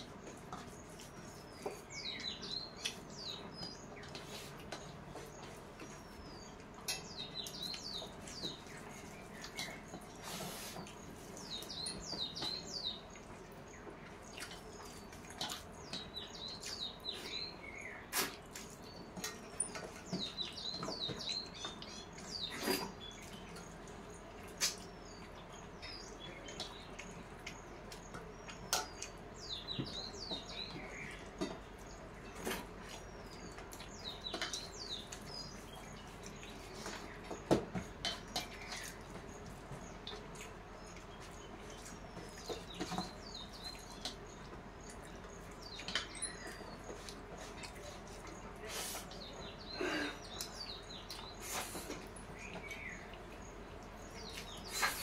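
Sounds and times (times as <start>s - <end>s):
chewing and smacking: 0.0s - 10.2s, 10.8s - 48.6s.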